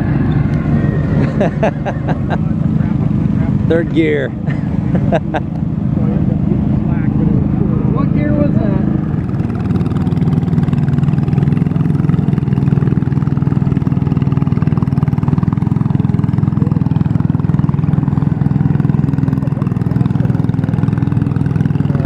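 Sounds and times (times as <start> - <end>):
tractor engine droning: 0.0 - 22.0.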